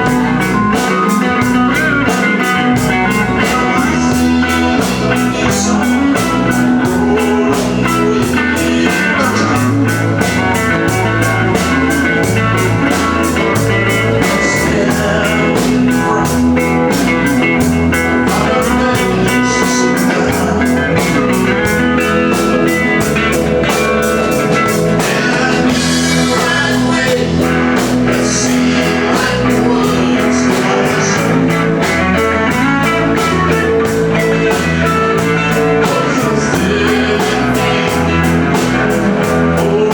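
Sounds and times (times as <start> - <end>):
country-rock band playing: 0.0 - 39.9.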